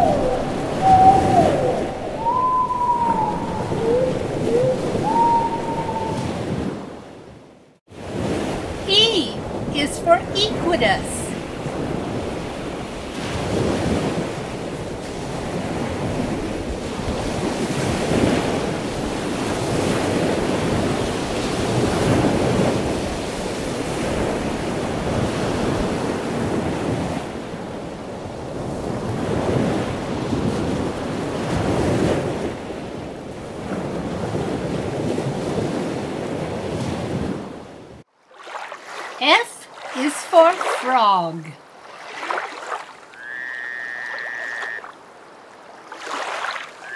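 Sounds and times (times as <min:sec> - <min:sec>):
ocean waves rushing: 0:00.0 - 0:07.1, 0:07.9 - 0:37.7, 0:38.3 - 0:43.2, 0:44.7 - 0:46.9.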